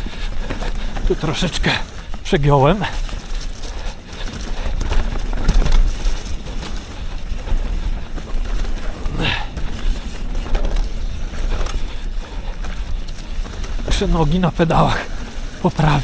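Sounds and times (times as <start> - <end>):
bike tyres rumbling on dirt: 0.0 - 16.0.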